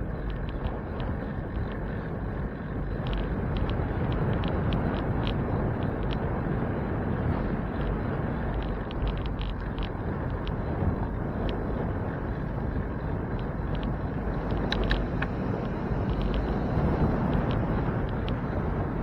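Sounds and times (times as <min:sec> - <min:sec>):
bicycle road rumble: 0:00.0 - 0:19.0
light clicks and rattles: 0:00.0 - 0:19.0
wind on microphone: 0:00.0 - 0:19.0.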